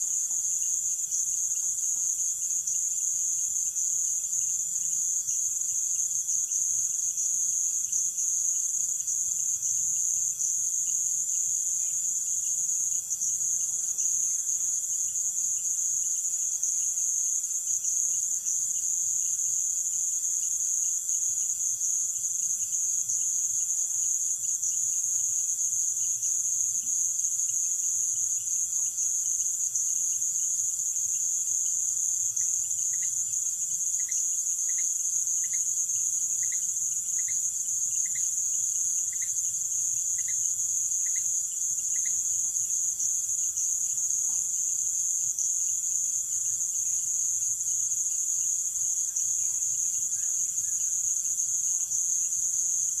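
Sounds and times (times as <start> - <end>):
high-pitched insect trill: 0.0 - 53.0.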